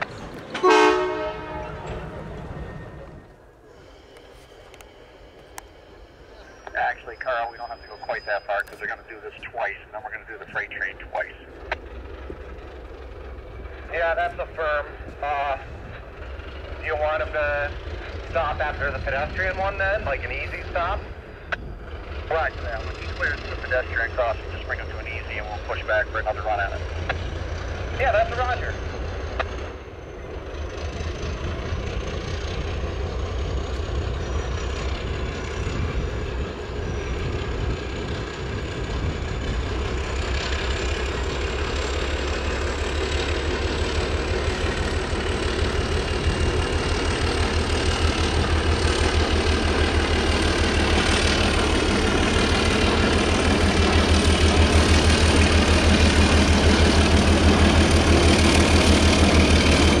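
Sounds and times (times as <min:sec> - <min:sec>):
diesel locomotive engine throb: 0:00.0 - 1:00.0.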